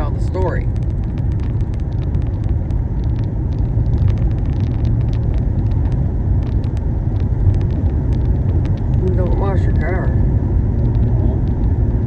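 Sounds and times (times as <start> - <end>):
tyre and engine rumble: 0.0 - 12.0.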